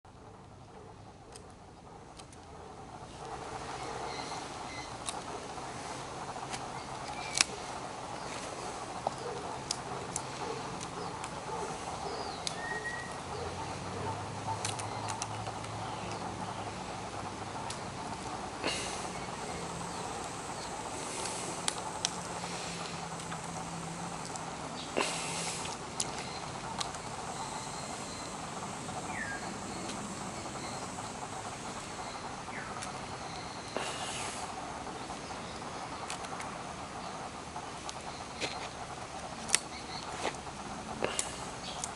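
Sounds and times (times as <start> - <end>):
low hum: 0.1 - 41.9
steady outdoor hiss: 0.1 - 41.9
small birds calling: 0.7 - 41.9
sharp clicks: 3.2 - 41.9.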